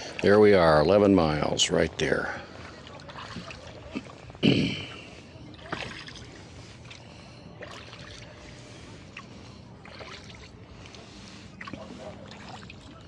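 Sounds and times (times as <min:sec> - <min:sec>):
oars rowing through water: 0:00.0 - 0:13.0.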